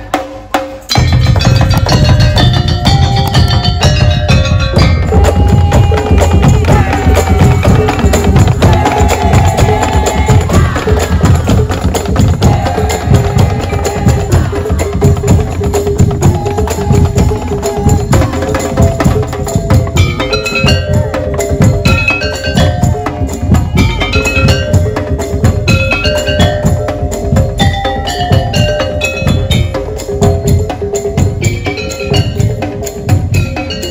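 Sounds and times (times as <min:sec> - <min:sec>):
fast dense drumming: 0:00.9 - 0:33.9
heavy bass beat: 0:00.9 - 0:33.9.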